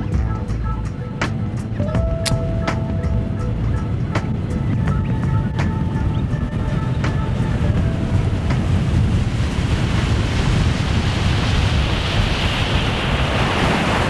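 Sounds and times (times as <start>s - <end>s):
wind buffeting microphone: 0.0s - 14.0s
rushing water and spray: 0.9s - 14.0s.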